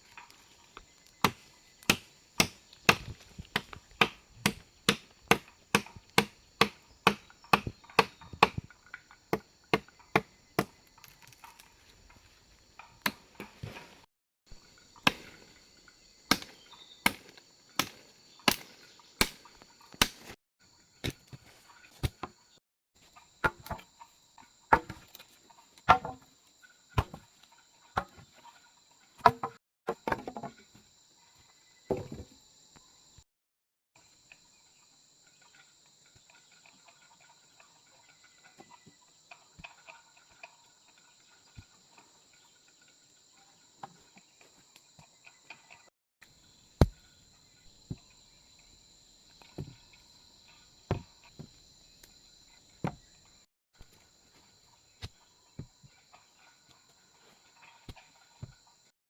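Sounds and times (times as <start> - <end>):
insects chirring: 0.0 - 33.2, 34.0 - 58.9.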